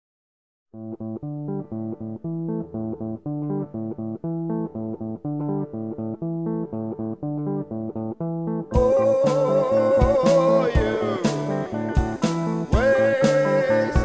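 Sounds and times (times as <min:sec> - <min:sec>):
bass line: 0:00.8 - 0:14.0
picked guitar notes: 0:00.8 - 0:14.0.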